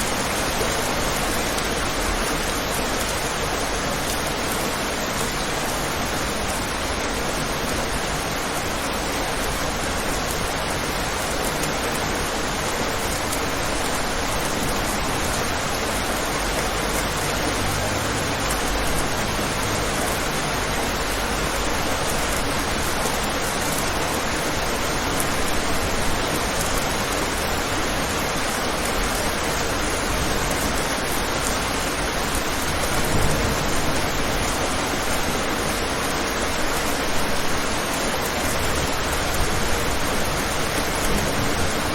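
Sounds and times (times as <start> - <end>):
rain spatters: 0.0 - 41.9
steady rain: 0.0 - 41.9.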